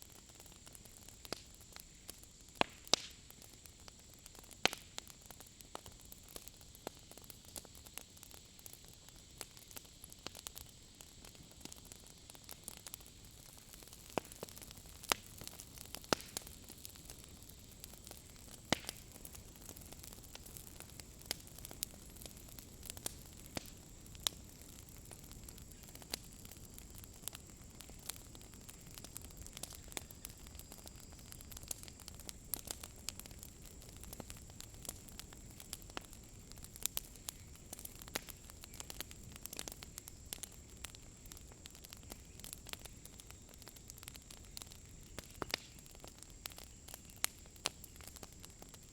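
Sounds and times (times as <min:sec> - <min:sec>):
campfire pops and snaps: 0:00.0 - 0:48.9
fire hiss: 0:00.0 - 0:48.9.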